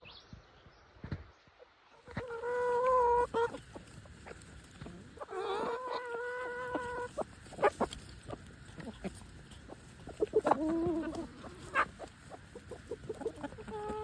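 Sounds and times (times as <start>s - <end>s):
chicken clucks: 2.0s - 14.0s
chickens calling: 2.0s - 14.0s.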